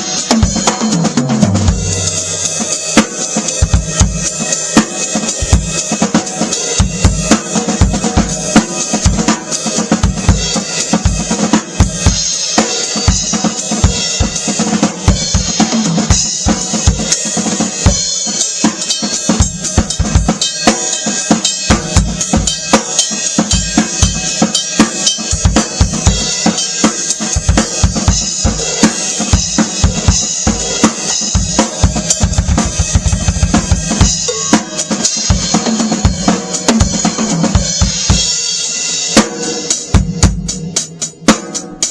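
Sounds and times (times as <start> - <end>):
drum kit playing: 0.0 - 41.9.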